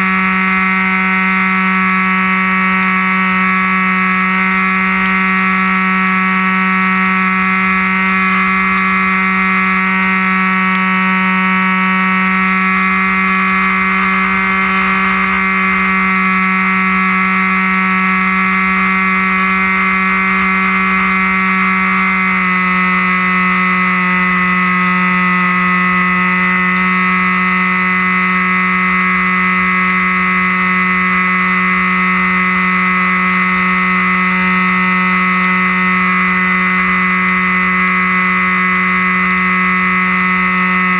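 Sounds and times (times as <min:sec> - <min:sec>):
model plane motor whining: 0:00.0 - 0:40.9.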